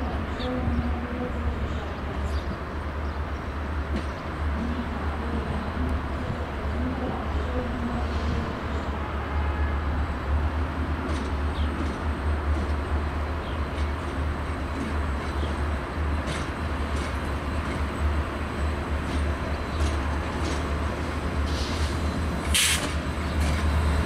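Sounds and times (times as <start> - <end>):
diesel locomotive droning: 0.0 - 24.0.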